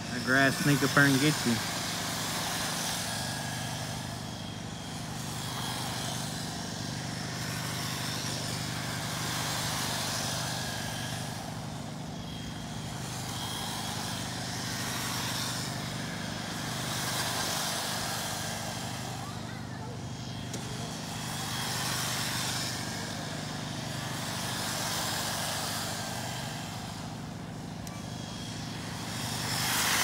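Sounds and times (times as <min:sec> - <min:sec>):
rc cars motor whine: 0:00.0 - 0:30.0.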